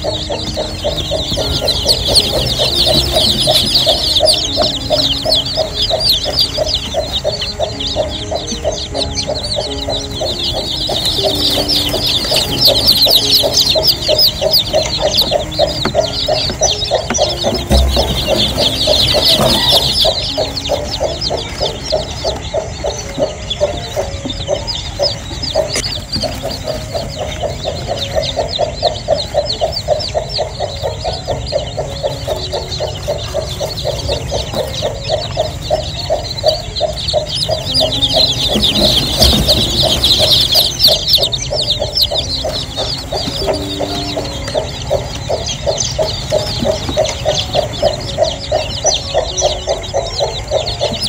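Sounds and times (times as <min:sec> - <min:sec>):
chicks peeping: 0:00.0 - 0:51.0
hen clucking: 0:00.0 - 0:51.0.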